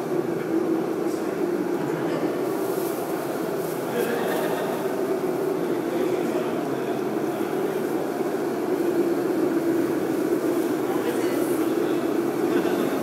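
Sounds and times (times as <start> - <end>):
dehumidifier droning: 0.0 - 13.0.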